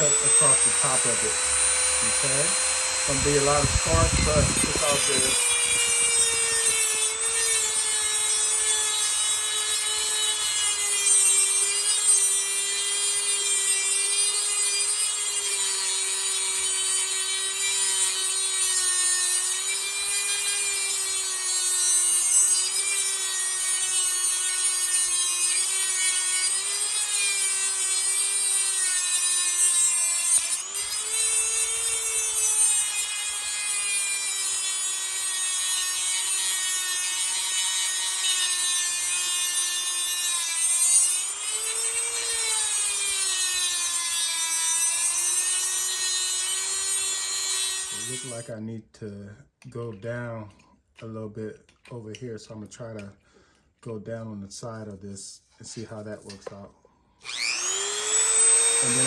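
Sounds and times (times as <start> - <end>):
rotary tool grinding metal: 0.0 - 48.5, 57.2 - 59.0.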